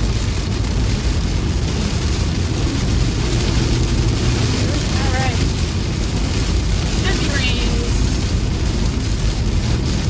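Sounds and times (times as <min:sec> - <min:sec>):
gusting wind: 0:00.0 - 0:10.0
heavy rain on a car: 0:00.0 - 0:10.0.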